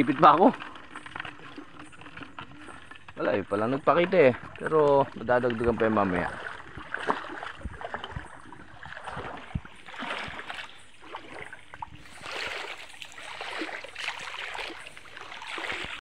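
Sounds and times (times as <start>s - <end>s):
knocks and drips: 0.0s - 16.0s
person wading through river water: 0.0s - 16.0s.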